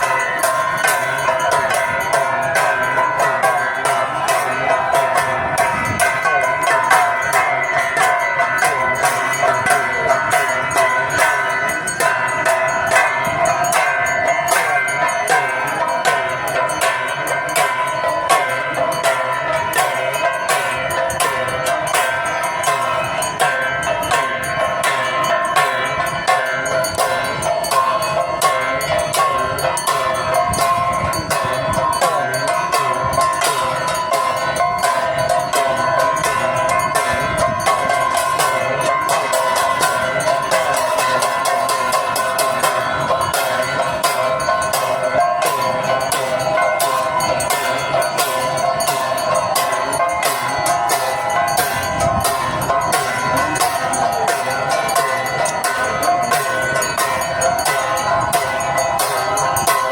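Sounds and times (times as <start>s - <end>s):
bells ringing: 0.0s - 59.9s
devotional melody: 0.0s - 59.9s
percussion strokes: 0.0s - 59.9s.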